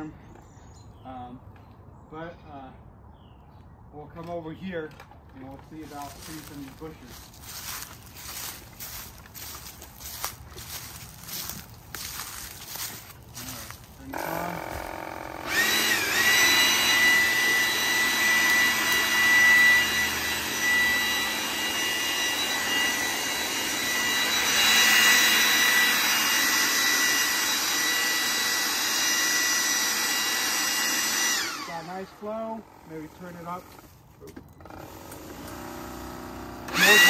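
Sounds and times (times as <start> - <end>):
leaf blower high whine: 5.4 - 37.0.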